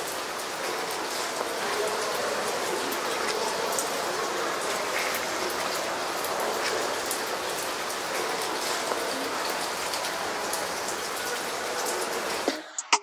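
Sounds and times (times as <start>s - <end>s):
steady rain falling: 0.0s - 12.7s.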